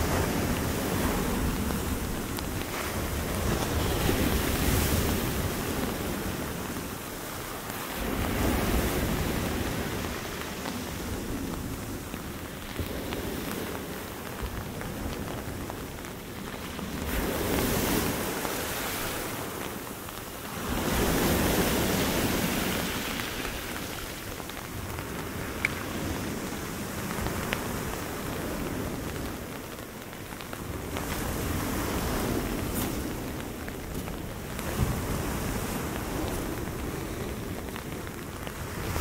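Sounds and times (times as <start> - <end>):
steady rain: 0.0 - 39.0
surf breaking on beach: 0.0 - 39.0
wind on microphone: 0.0 - 39.0.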